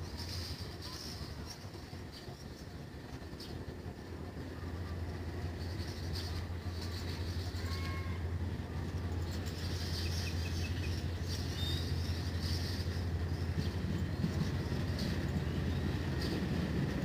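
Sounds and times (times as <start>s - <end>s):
idling diesel rail vehicle: 0.0s - 17.0s.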